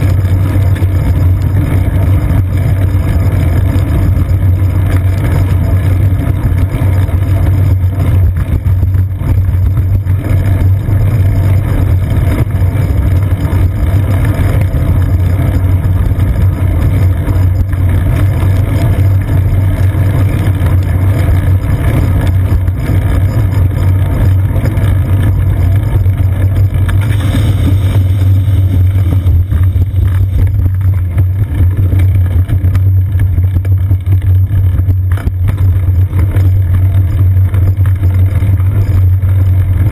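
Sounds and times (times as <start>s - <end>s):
bicycle road vibration rumble: 0.0s - 39.9s
wind noise: 0.0s - 39.9s.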